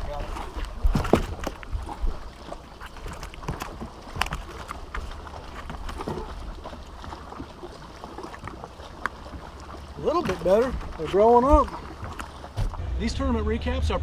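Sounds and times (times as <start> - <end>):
light knocks and clicks in boat: 0.0 - 12.9
low rumble of wind and water: 0.0 - 14.0.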